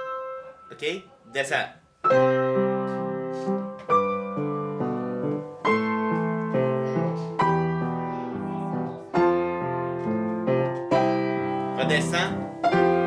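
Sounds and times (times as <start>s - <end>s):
upright piano chords: 0.0s - 13.0s.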